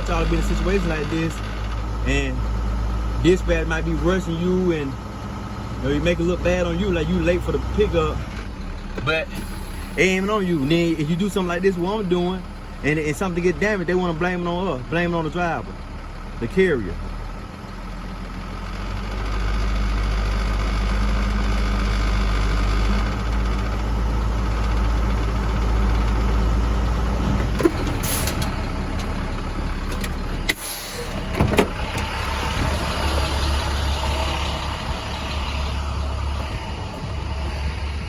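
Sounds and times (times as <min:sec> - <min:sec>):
truck engine humming: 0:00.0 - 0:38.0.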